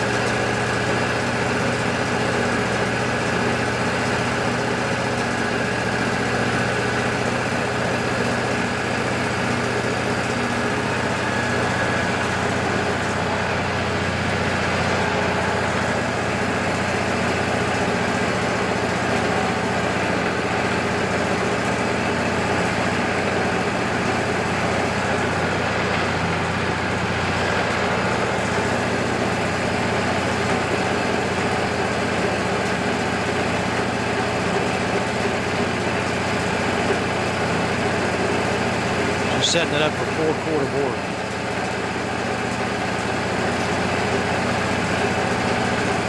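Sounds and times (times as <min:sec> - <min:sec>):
sawmill engine running: 0:00.0 - 0:46.0.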